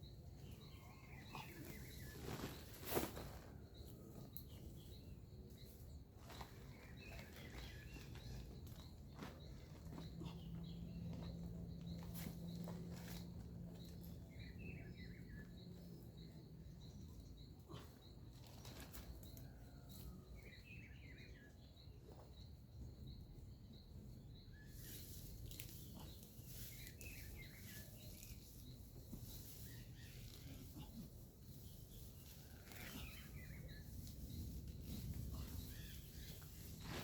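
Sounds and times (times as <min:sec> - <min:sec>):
bird chirping: 0:00.0 - 0:37.0.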